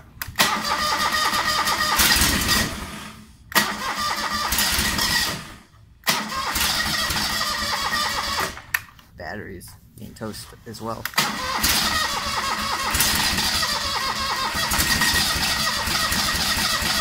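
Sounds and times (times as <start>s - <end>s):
starter cranking engine: 0.4s - 8.7s, 11.2s - 17.0s.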